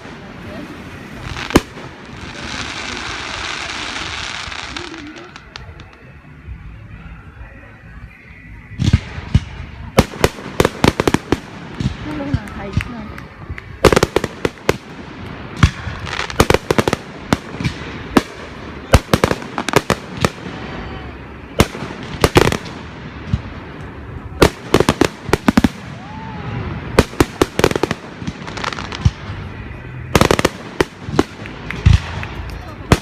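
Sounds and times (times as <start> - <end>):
fireworks bangs: 0.0 - 6.2, 8.6 - 33.0
fireworks crackling: 0.0 - 33.0.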